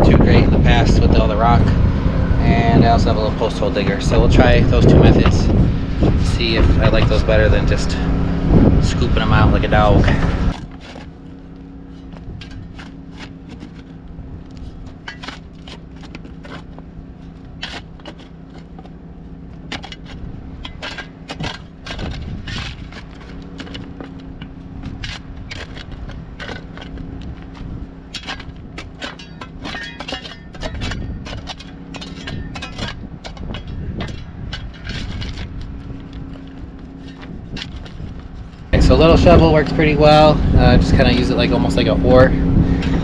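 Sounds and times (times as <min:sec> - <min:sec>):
steady low hum: 0:00.0 - 0:43.0
shovel scraping rocky dirt: 0:02.4 - 0:08.1, 0:08.8 - 0:43.0.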